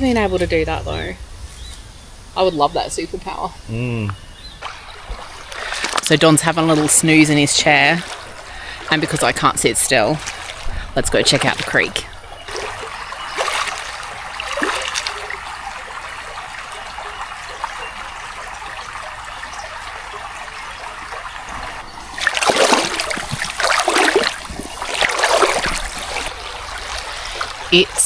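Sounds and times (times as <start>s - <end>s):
water splashing: 0.0s - 3.8s, 4.6s - 28.0s
creek water trickling: 0.0s - 28.0s.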